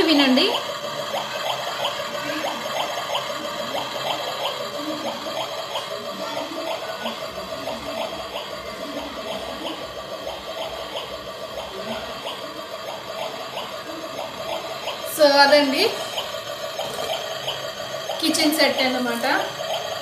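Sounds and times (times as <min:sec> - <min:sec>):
toy electronic cooking sound: 0:00.0 - 0:20.0.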